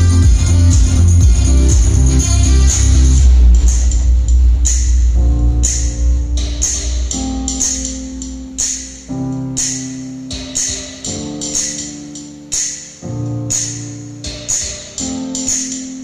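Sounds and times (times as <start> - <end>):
loud music through speaker: 0.0 - 12.9.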